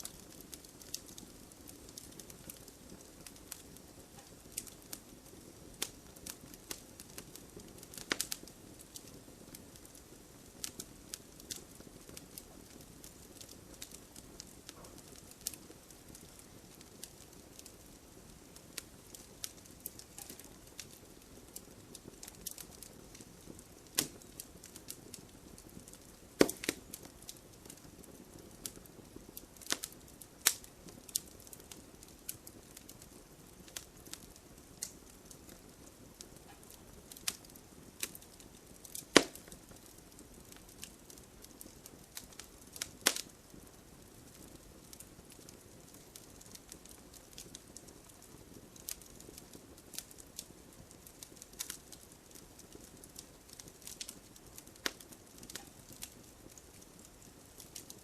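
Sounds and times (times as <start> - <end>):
fire hissing: 0.0 - 50.2
wood fire crackling and popping: 0.0 - 58.0.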